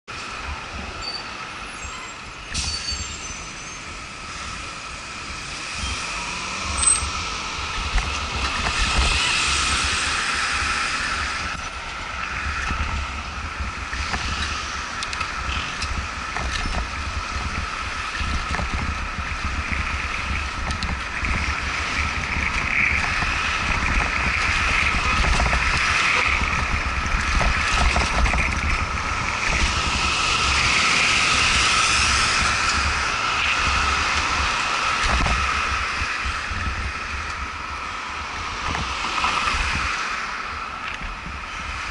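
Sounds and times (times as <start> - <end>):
passing cars: 0.0 - 41.9
road noise: 0.0 - 41.9
wind buffeting microphone: 3.8 - 41.9.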